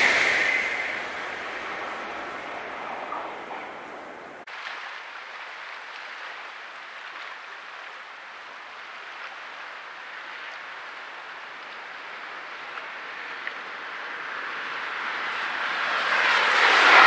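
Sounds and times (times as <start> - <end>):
water rippling and lapping: 0.0 - 15.4.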